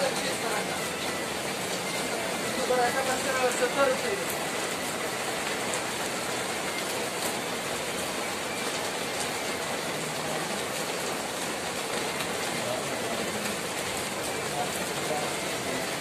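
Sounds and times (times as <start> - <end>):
rain hissing on pavement: 0.0 - 16.0.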